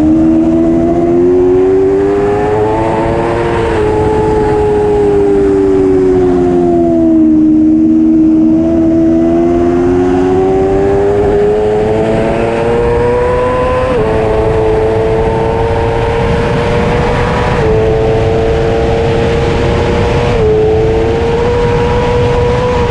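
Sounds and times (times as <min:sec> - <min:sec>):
motorcycle engine at high revs: 0:00.0 - 0:22.9.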